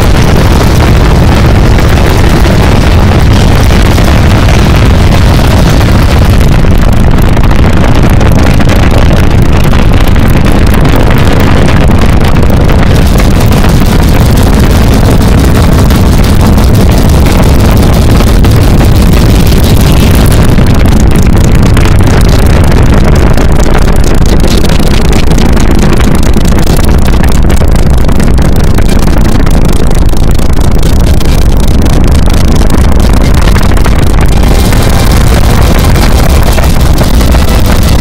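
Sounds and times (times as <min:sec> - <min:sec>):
rocket launch roar over speakers: 0:00.0 - 0:38.0.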